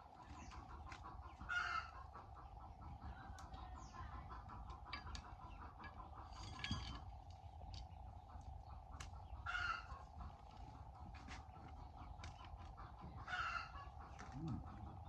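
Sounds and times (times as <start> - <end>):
chicken calls: 0.0 - 15.0
chickens clucking: 0.0 - 15.0.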